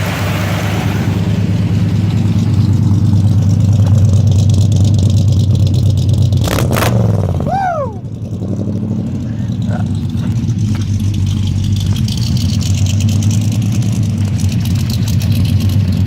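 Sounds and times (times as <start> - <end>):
truck engine idling loudly: 0.0 - 16.0.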